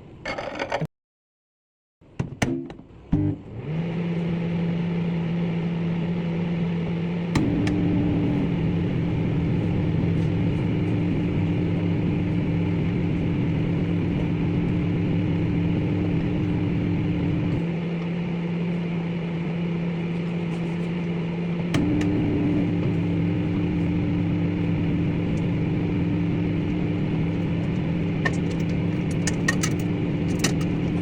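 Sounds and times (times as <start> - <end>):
microwave oven humming: 3.1 - 31.0.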